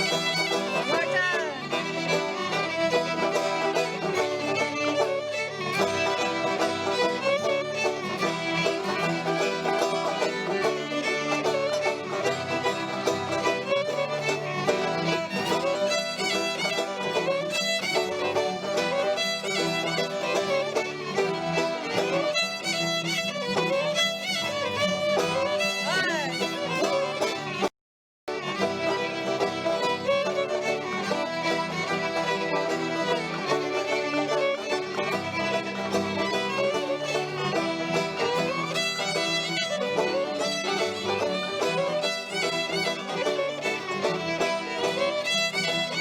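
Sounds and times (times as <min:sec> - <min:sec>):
fiddle playing: 0:00.0 - 0:27.7, 0:28.3 - 0:46.0
plucked strings: 0:00.0 - 0:27.7, 0:28.3 - 0:46.0.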